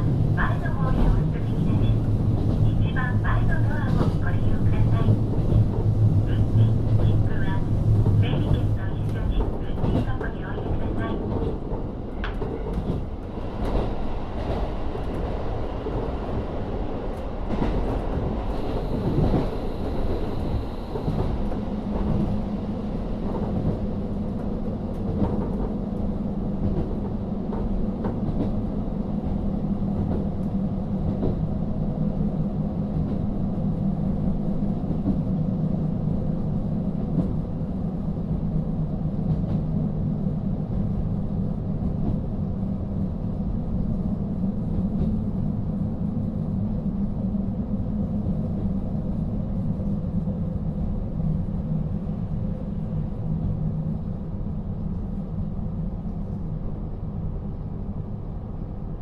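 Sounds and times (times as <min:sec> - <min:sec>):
train rolling noise: 0:00.0 - 0:59.0.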